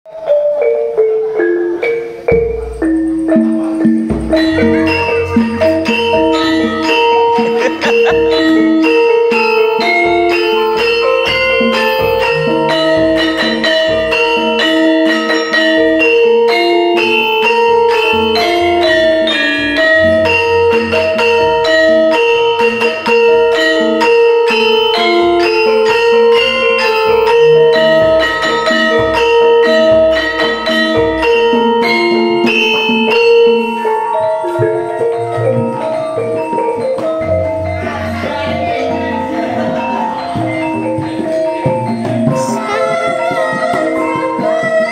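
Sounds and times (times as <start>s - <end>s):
hand drums: 0.1s - 44.9s
metallophones struck with mallets: 0.1s - 44.9s.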